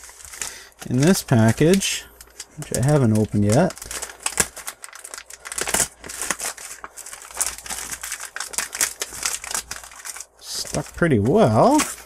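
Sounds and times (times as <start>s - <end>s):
foil bag crinkling: 0.0s - 12.0s.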